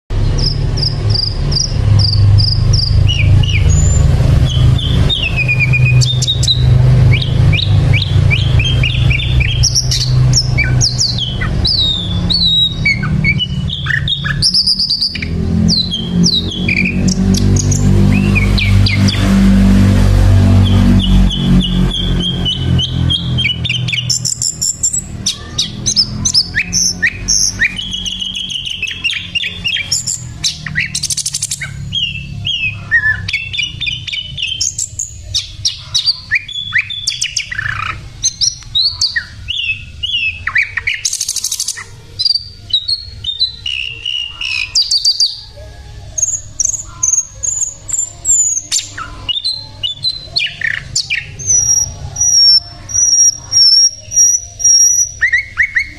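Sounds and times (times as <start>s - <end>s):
faint traffic rumble: 0.1s - 55.9s
flycatcher singing: 0.1s - 55.9s.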